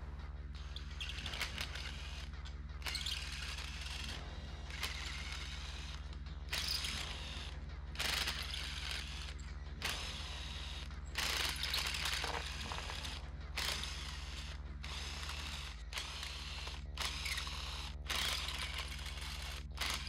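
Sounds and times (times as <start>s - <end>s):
power tool spinning bolts: 0.6s - 20.0s.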